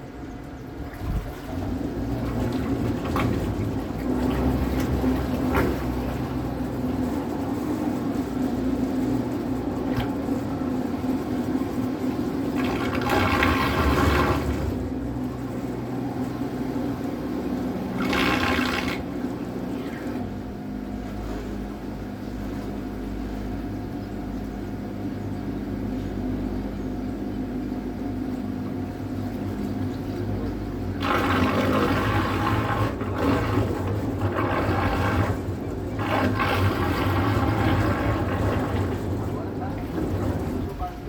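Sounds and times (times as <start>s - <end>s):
steady low hum: 0.0s - 41.0s
water splashing along a hull: 0.0s - 41.0s.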